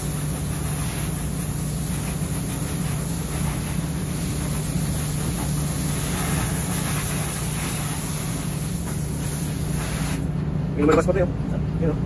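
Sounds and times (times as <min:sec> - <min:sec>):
hose spraying water: 0:00.0 - 0:10.3
low machinery drone: 0:00.0 - 0:12.0.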